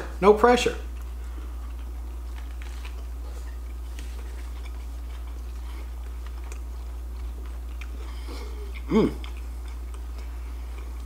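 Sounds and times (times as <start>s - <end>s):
steady low hum: 0.0s - 11.0s
chewing and mouth sounds: 0.8s - 11.0s.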